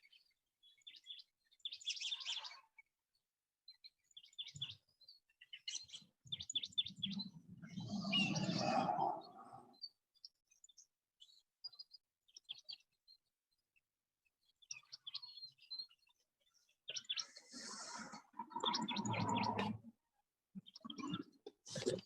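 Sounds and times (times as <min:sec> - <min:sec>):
small birds chirping: 0:00.0 - 0:03.0, 0:03.7 - 0:22.0.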